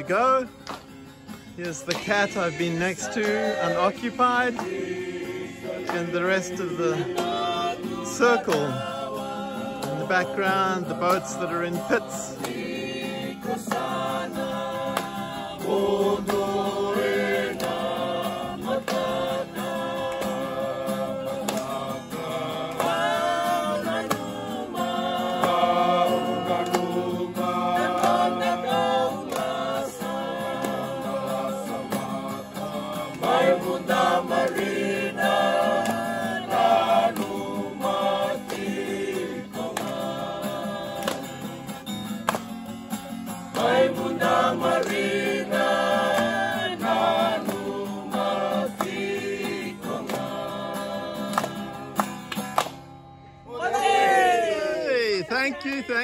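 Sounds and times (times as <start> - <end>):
group singing together: 0.0 - 52.8, 53.5 - 54.8
acoustic guitar: 0.0 - 56.0.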